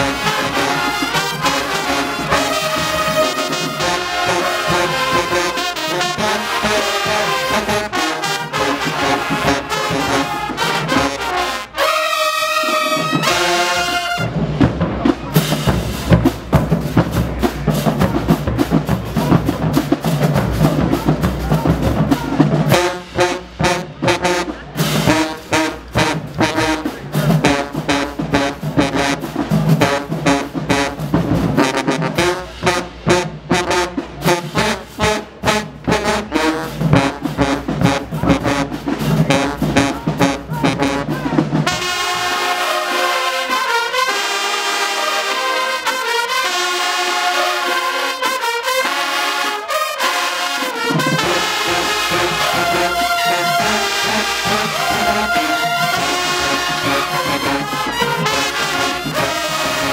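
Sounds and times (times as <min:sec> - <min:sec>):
drums: 0:00.0 - 0:44.0, 0:50.7 - 0:59.9
marching band playing: 0:00.0 - 0:59.9.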